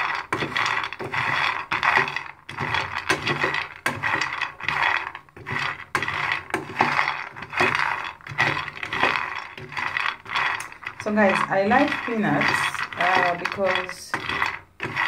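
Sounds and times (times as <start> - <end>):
metal spatula scraping pan: 0.0 - 15.0
nuts rattling in metal pan: 0.0 - 15.0.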